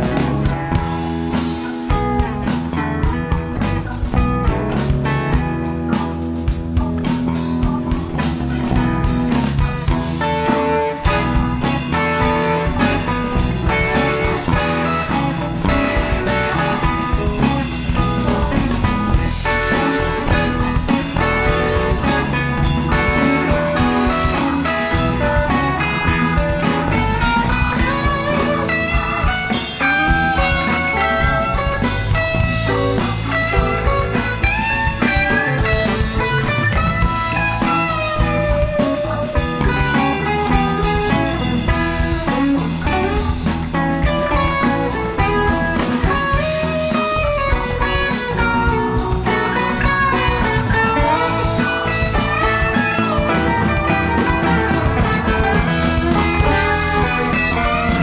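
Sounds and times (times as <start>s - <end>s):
bass guitar: 0.0s - 58.0s
drum kit: 0.0s - 58.0s
electric guitar lead lines: 0.0s - 58.0s.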